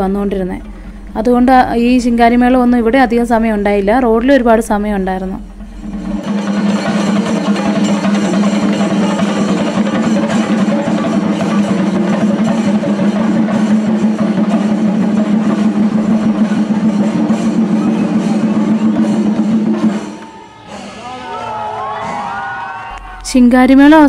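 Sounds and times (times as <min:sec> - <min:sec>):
chenda drums beaten fast: 0:00.0 - 0:24.0.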